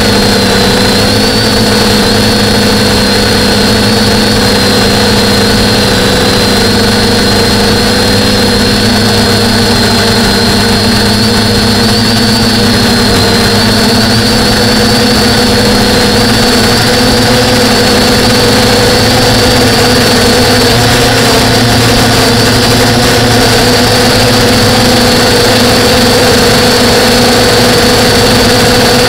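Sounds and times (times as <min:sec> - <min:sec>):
drone motors and propellers humming: 0:00.0 - 0:29.0.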